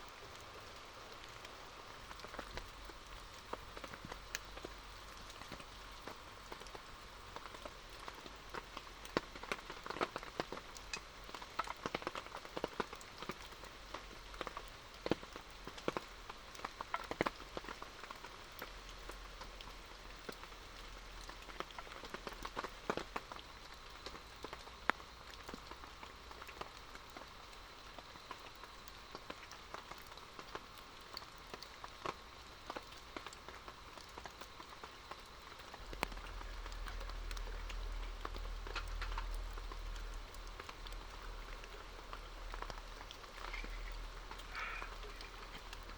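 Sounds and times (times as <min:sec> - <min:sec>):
rain drops ticking on a surface: 0:00.0 - 0:45.9.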